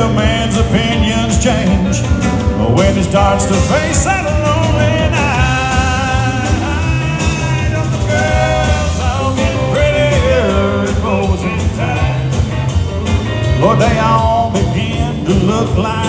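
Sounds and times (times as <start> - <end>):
man singing: 0.0 - 12.7, 13.4 - 16.0
live country band playing: 0.0 - 16.0.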